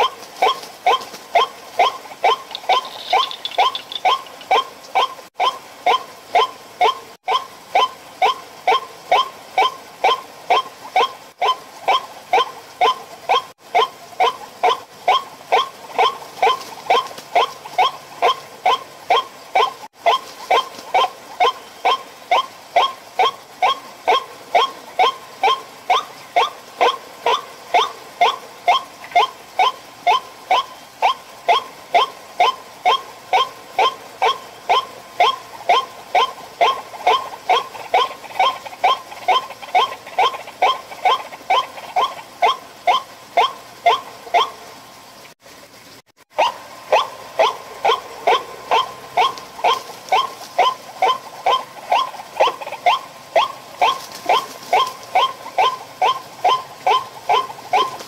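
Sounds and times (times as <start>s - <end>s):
bird croaking calls: 0.0s - 44.7s, 46.4s - 58.0s.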